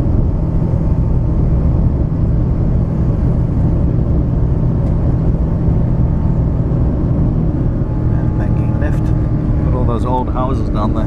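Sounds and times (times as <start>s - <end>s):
faint steady whine: 0.0s - 11.0s
jet engines rumbling: 0.0s - 11.0s.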